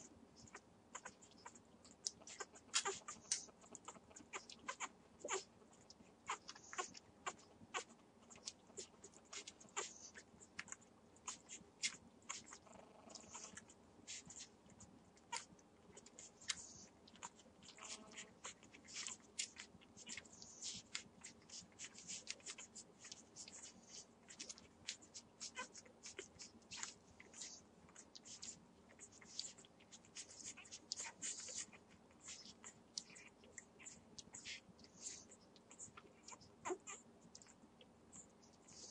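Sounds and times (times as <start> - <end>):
puppies sucking and smacking: 0.0 - 38.9
puppies squeaking: 0.4 - 1.6, 2.2 - 5.5, 6.2 - 10.3, 11.2 - 14.5, 15.3 - 37.6.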